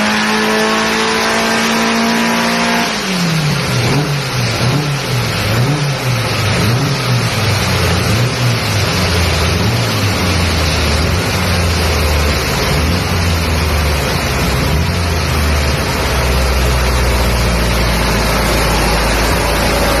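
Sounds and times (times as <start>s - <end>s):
engine revving on a dyno: 0.0s - 20.0s.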